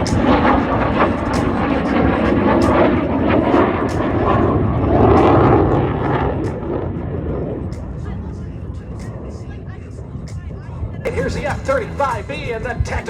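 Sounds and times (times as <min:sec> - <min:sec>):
jet engine in flight: 0:00.0 - 0:13.0.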